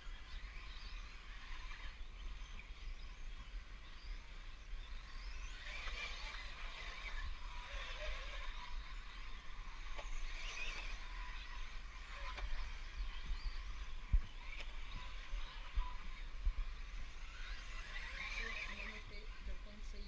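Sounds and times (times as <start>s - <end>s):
radio-controlled car motors whining: 0.0s - 20.0s.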